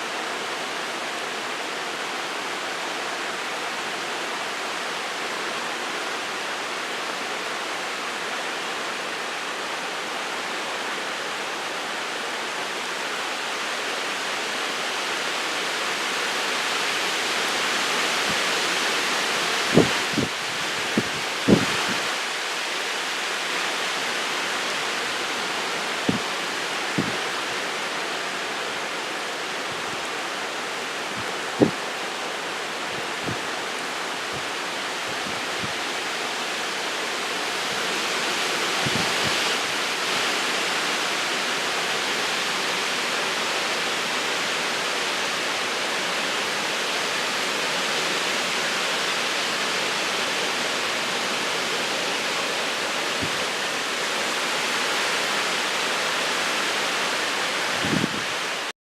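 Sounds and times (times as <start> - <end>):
rain falling in wind: 0.0 - 58.8.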